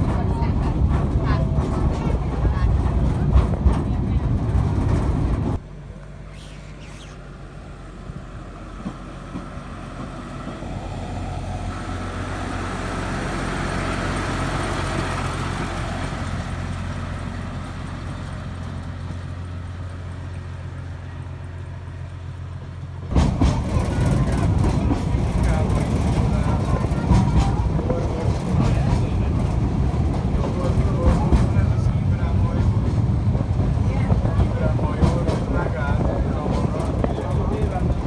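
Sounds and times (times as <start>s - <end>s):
diesel locomotive engine humming: 0.0s - 38.0s.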